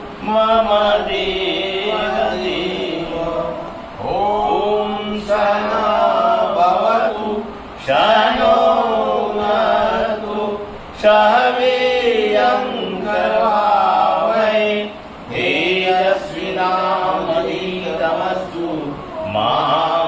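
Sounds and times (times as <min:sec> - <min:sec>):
group chanting prayer: 0:00.0 - 0:20.0.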